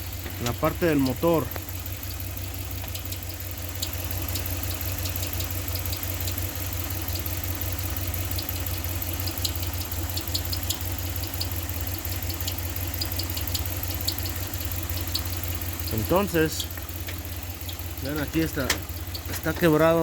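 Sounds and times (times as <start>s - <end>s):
engine idling: 0.0s - 20.0s
high-pitched engine ticks: 0.0s - 20.0s.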